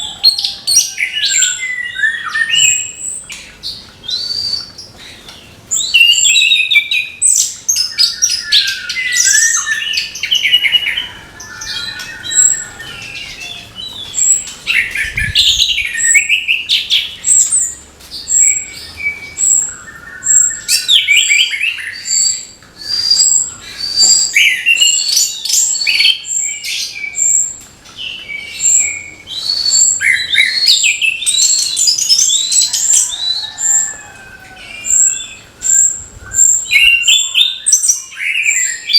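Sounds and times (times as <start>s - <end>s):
thrush singing twittering song: 0.0s - 38.9s.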